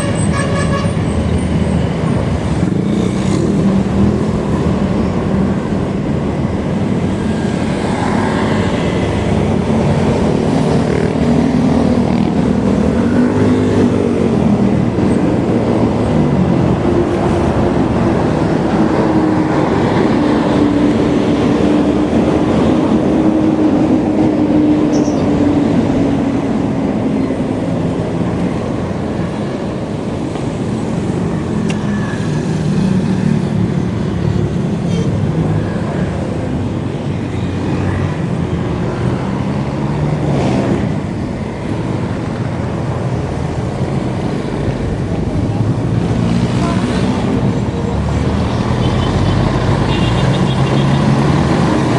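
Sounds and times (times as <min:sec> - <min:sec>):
rushing wind and road noise: 0:00.0 - 0:51.9.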